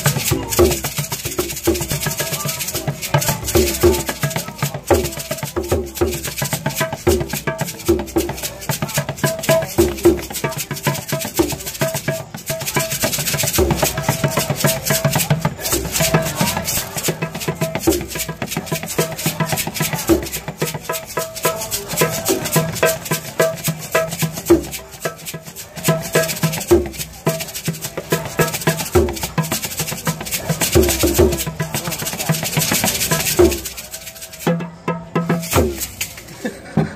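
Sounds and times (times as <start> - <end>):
shakers rattling: 0.0 - 36.7.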